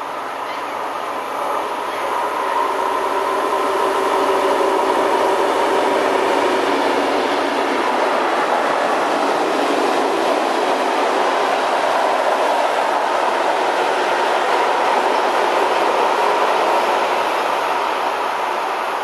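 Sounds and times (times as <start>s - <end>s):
diesel locomotive engine passing: 0.0s - 19.0s.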